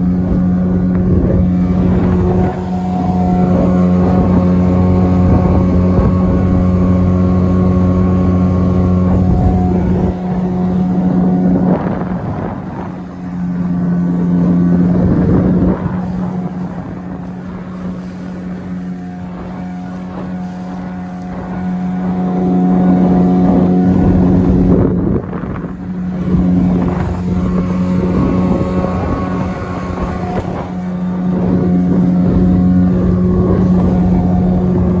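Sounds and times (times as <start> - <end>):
outboard motor running: 0.0 - 35.0
wind on microphone: 0.0 - 35.0.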